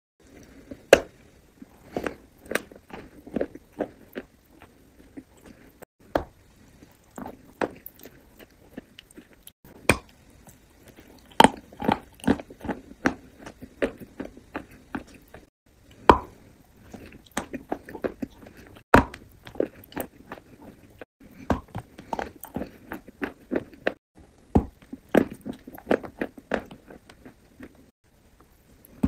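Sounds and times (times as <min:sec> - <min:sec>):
bites and chewing: 0:00.2 - 0:05.9, 0:06.6 - 0:24.0, 0:24.7 - 0:27.9.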